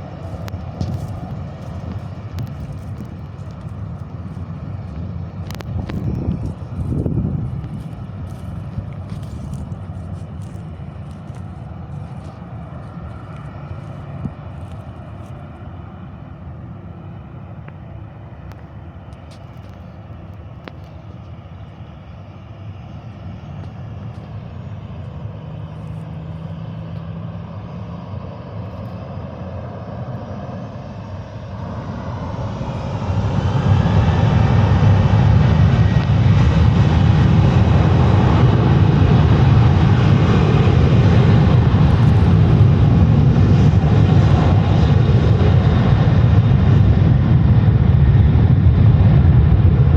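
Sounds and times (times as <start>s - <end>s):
jet engines spooling up: 0.0s - 49.9s.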